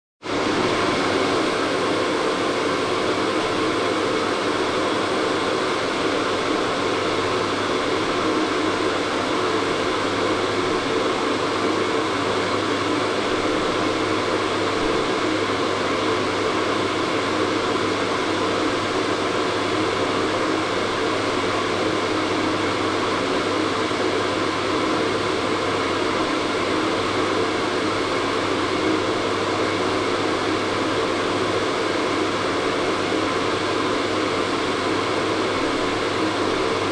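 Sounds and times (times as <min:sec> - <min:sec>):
hair dryer running: 0:00.2 - 0:36.9.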